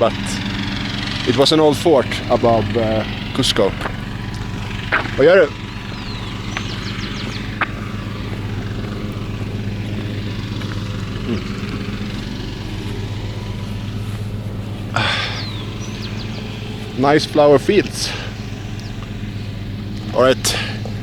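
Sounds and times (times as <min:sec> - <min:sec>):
small engine idling: 0:00.0 - 0:21.0.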